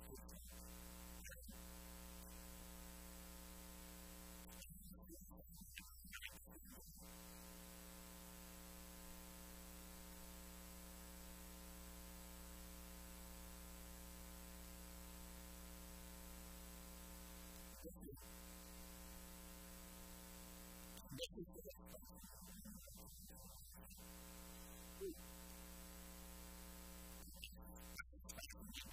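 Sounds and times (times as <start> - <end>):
electrical mains hum with hiss: 0.0 - 28.9.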